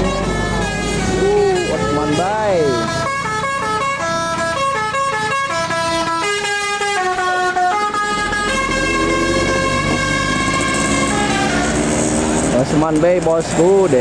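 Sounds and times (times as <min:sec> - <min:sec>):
bus musical horn tune: 0:00.0 - 0:12.0.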